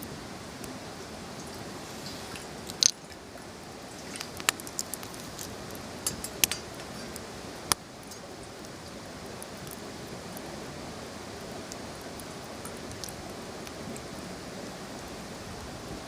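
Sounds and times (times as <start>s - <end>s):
steady fire hiss: 0.0s - 16.0s
campfire crackling and popping: 1.3s - 14.3s.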